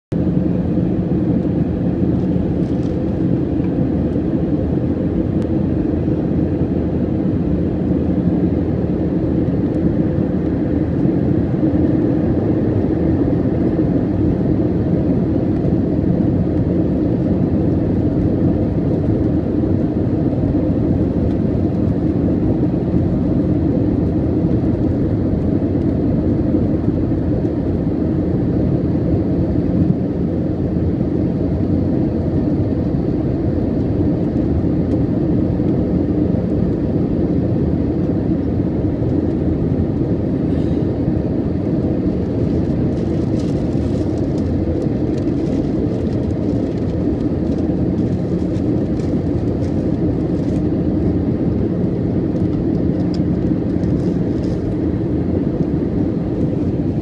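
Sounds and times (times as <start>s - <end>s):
jet engine drone: 0.1s - 57.0s
low cabin hum: 0.1s - 57.0s.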